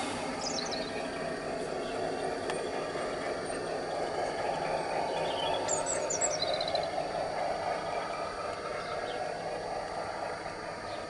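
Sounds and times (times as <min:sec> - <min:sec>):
model train rumbling on track: 0:00.0 - 0:11.0
small bird chirping: 0:00.0 - 0:11.0.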